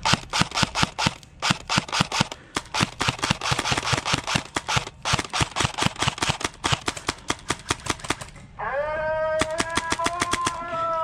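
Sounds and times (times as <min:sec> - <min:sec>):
airsoft guns firing: 0:00.0 - 0:08.4, 0:09.4 - 0:10.9.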